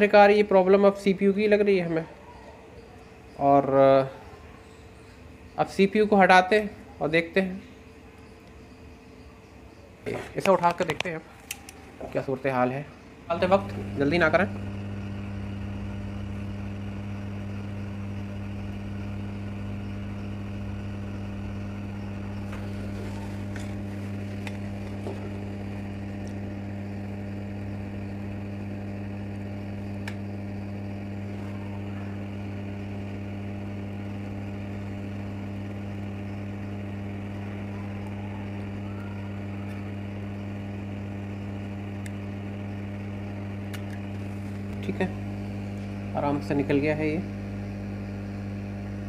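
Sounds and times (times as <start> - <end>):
hot-air station blowing hum: 0.0 - 49.0.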